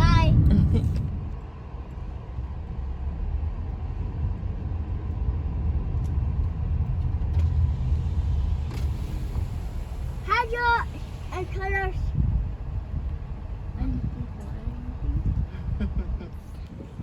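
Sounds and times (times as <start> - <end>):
engine and road noise drone: 0.0 - 17.0.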